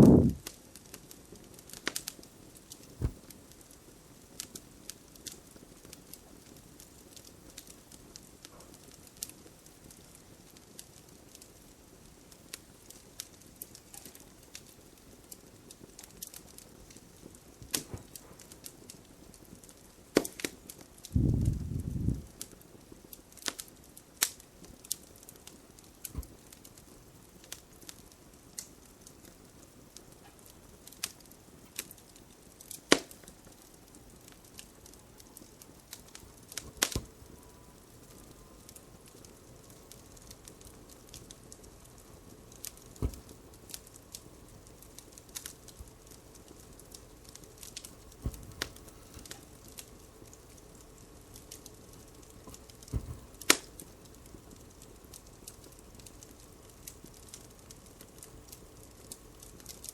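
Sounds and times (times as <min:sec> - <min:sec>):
fireplace crackling: 0:00.0 - 0:59.9.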